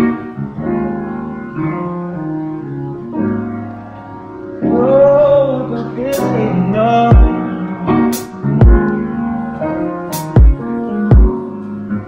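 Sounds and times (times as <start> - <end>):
background music with sustained chords: 0.0 - 12.0.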